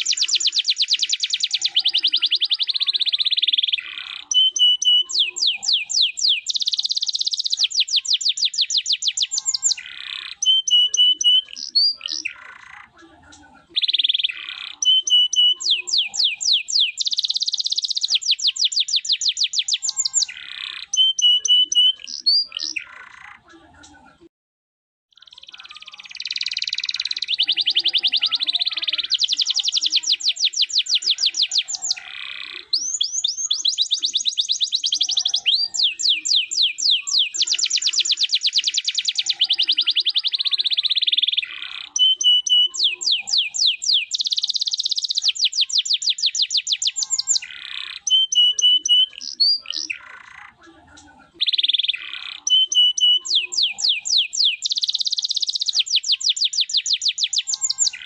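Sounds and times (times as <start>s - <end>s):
canary singing trills: 0.0s - 24.0s, 25.1s - 58.0s.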